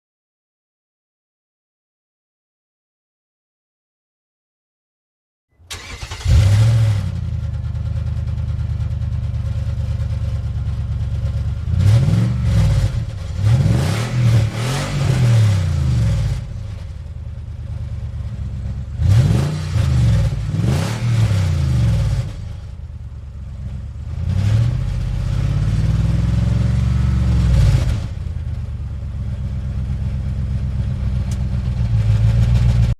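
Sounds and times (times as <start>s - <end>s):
car engine starting and revving: 5.6s - 32.9s.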